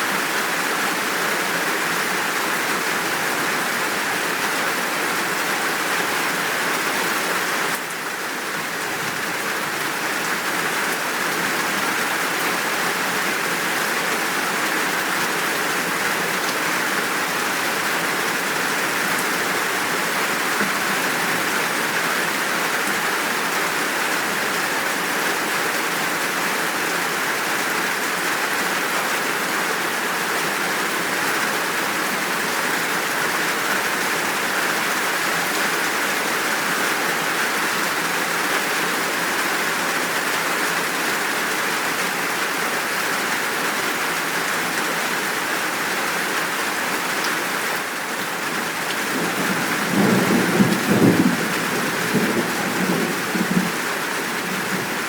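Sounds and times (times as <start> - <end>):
heavy rain downpour: 0.0 - 55.0.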